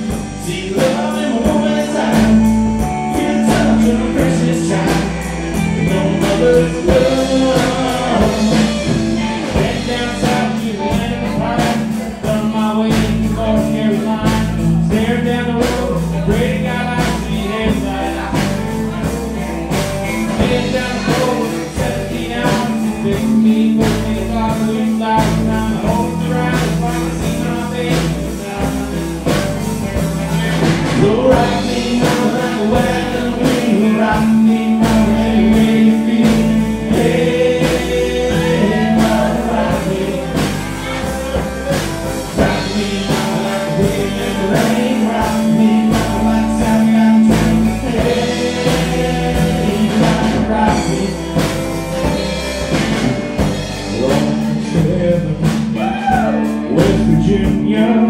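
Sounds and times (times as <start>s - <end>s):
country band playing: 0.0s - 58.0s
person singing: 0.0s - 58.0s.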